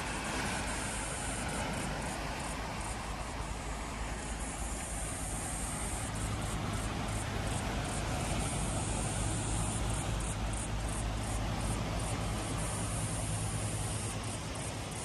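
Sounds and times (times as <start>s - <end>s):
insects chirping: 0.0s - 15.0s
waves washing over rocks: 0.0s - 15.0s.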